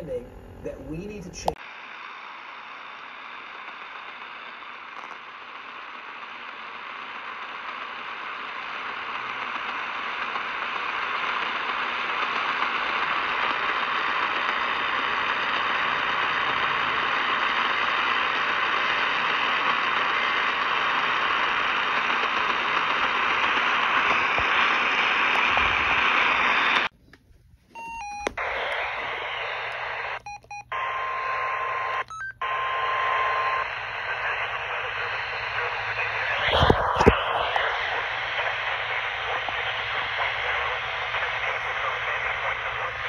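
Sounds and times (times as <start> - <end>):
radio static hiss: 0.0 - 26.9, 27.8 - 43.0.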